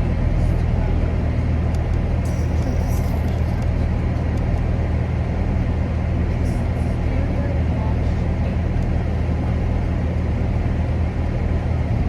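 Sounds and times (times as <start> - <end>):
car interior low rumble: 0.0 - 12.0.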